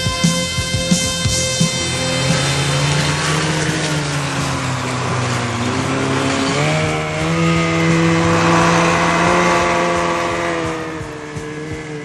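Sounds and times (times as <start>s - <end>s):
outboard engine running flat out: 0.0s - 12.0s.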